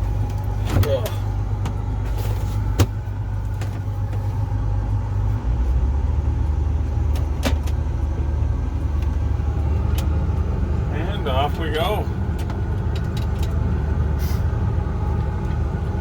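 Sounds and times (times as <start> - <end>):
diesel engine drone: 0.0 - 16.0.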